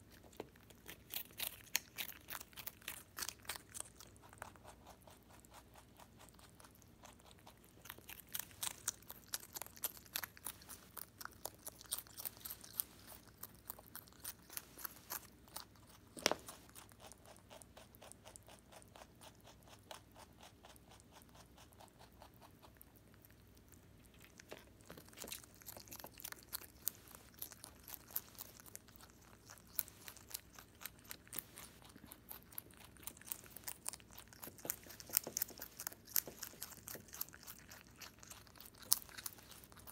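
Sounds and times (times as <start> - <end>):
rabbit crunching cabbage: 0.0 - 39.9.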